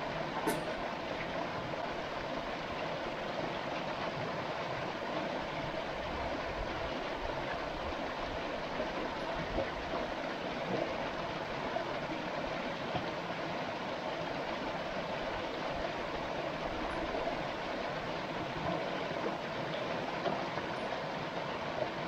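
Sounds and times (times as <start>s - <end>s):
steady rushing water: 0.0s - 22.0s.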